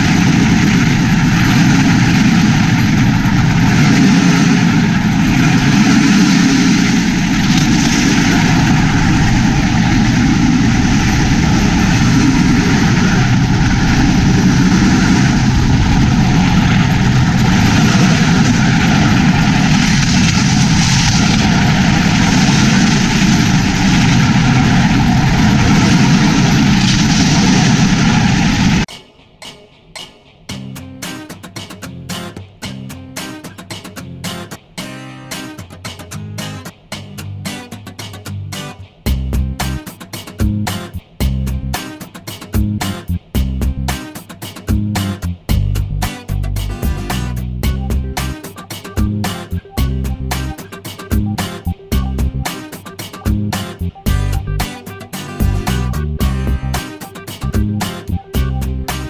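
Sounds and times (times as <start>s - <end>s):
engine drone: 0.0s - 28.9s, 38.4s - 39.8s, 40.4s - 41.9s, 42.6s - 44.1s, 44.7s - 59.0s
platform and wheels rattling on track: 0.0s - 28.9s, 38.8s - 59.0s.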